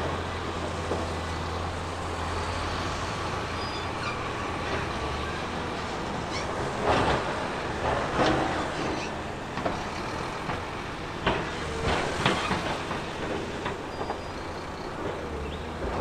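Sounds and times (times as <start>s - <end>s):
heavy earthmoving machinery running: 0.0s - 16.0s.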